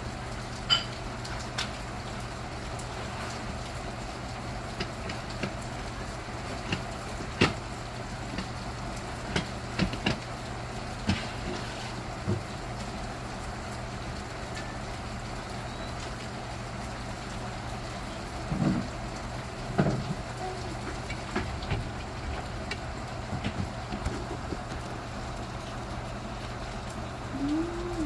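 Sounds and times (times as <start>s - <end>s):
heavy rain: 0.0s - 28.0s
low steady hum: 0.0s - 28.0s.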